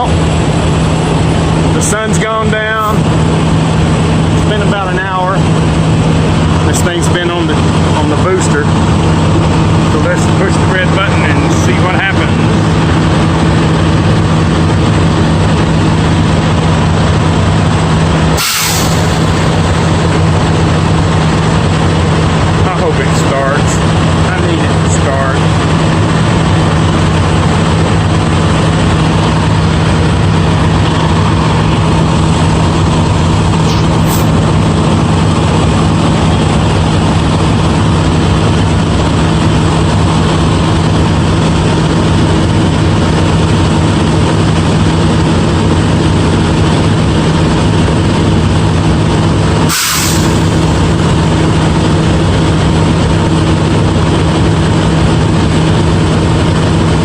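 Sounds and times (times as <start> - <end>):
diesel engine hum: 0.0 - 57.0.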